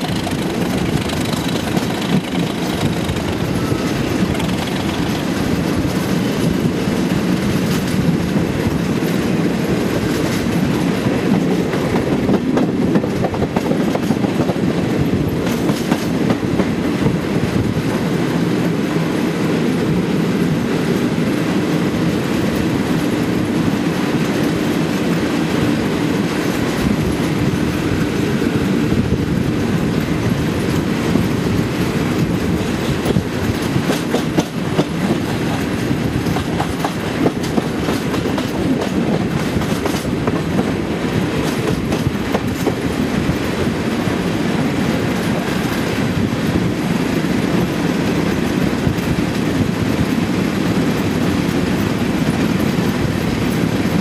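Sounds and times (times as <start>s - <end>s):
diesel locomotive engine drone: 0.0s - 54.0s
wheel clatter over rail joints: 0.0s - 54.0s.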